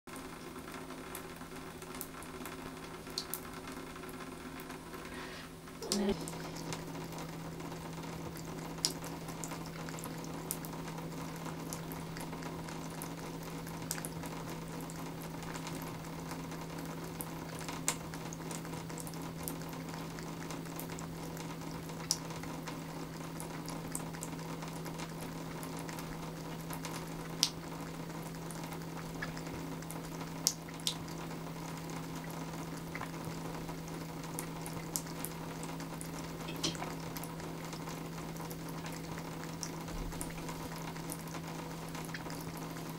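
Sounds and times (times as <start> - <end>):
faucet water splashing into tub: 5.8 - 16.0, 16.6 - 42.9.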